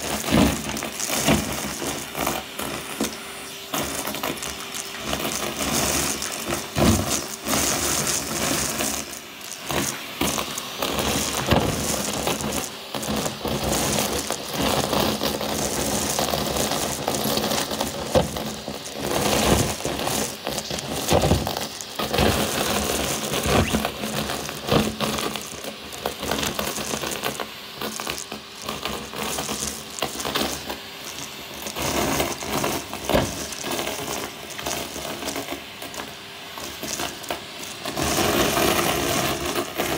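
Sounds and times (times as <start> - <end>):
paper crackling up vacuum tube: 0.0 - 39.9
vacuum cleaner motor running: 0.0 - 39.9.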